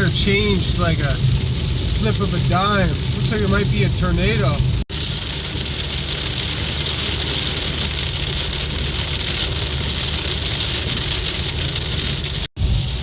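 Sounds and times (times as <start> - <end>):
car engine and road noise: 0.0 - 13.0
heavy rain on a car: 0.0 - 13.0.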